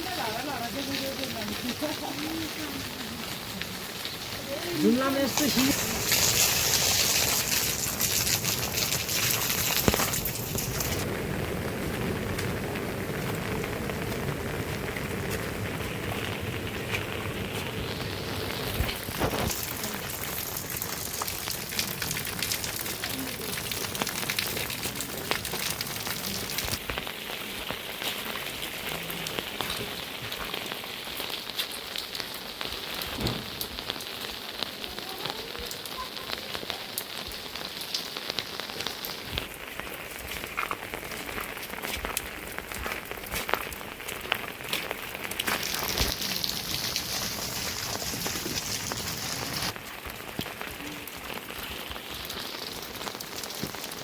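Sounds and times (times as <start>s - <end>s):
rain pattering on hard surface: 0.0s - 54.0s.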